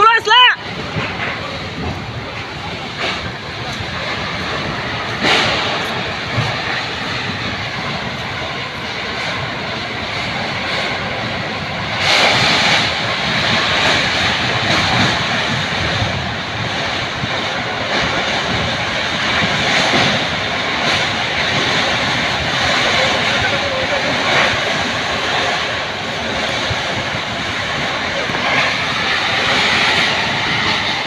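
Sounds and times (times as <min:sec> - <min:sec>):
heavy wind gusts: 0:00.0 - 0:31.0.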